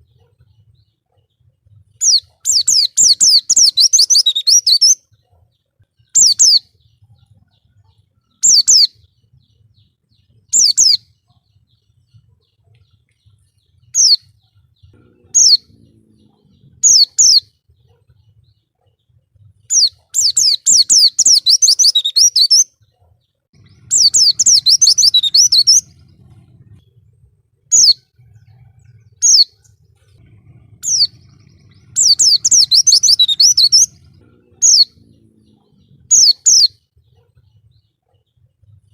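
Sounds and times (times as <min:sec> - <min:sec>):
bird chirping: 0:00.0 - 0:38.9
bird twittering song: 0:00.0 - 0:38.9.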